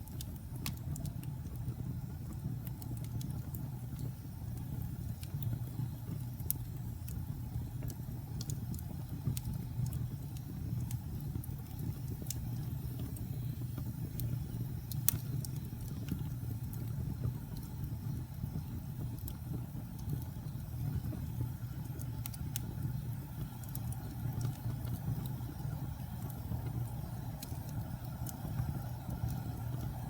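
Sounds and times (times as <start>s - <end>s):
fire crackling and popping: 0.0s - 30.0s
fire flames rumbling: 0.0s - 30.0s.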